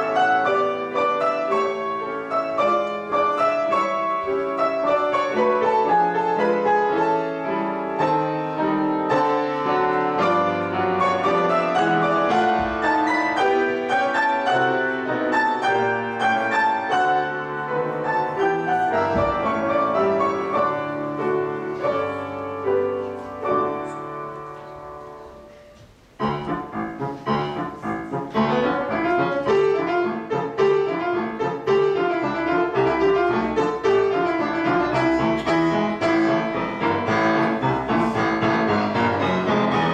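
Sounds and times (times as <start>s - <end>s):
grand piano playing classical piece: 0.0s - 39.9s.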